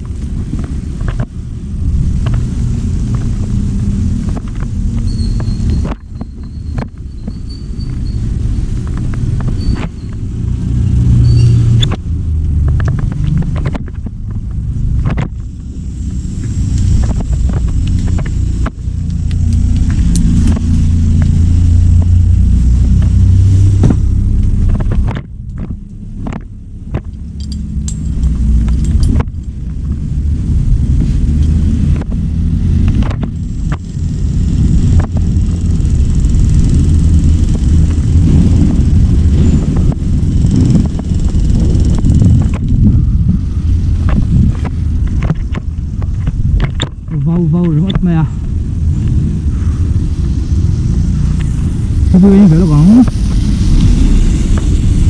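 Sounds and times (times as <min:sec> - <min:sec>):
excavator engine rumbling: 0:00.0 - 0:55.0.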